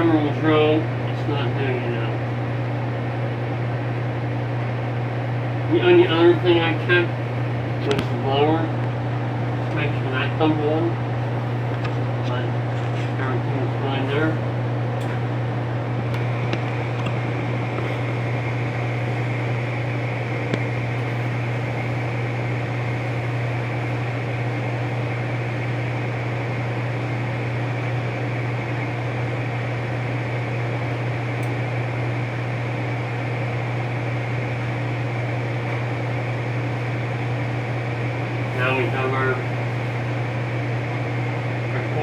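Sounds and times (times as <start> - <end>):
furnace fan motor hum: 0.0 - 42.0
thin steady whine: 0.0 - 42.0.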